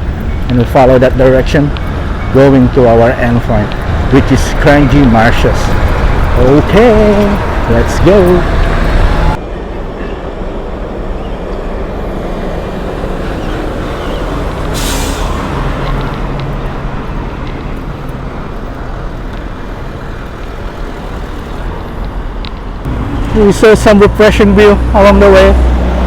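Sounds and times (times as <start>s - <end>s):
road traffic rumbling: 0.0s - 26.0s.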